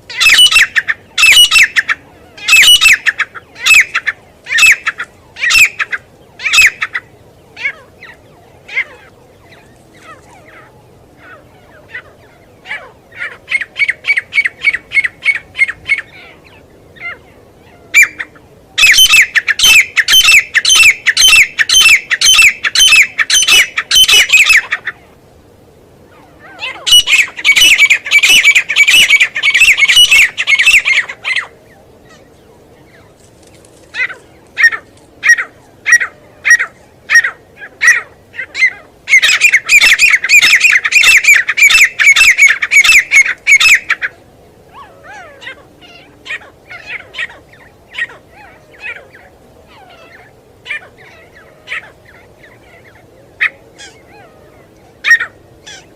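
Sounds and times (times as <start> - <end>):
francolin calling harshly: 0.0 - 25.2, 25.9 - 33.2, 33.8 - 55.9.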